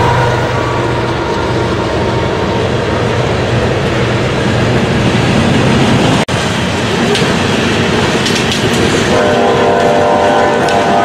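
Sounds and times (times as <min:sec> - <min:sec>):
steel wheels rattling on rail: 0:00.0 - 0:11.0.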